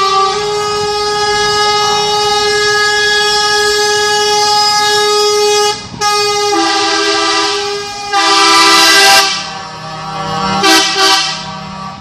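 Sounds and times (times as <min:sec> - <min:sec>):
truck air horn blasts: 0:00.0 - 0:12.0.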